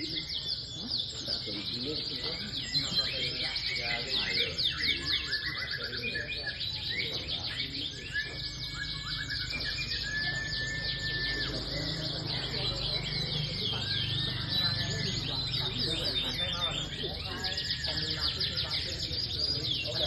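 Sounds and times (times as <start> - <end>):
canaries singing trills: 0.0 - 20.0.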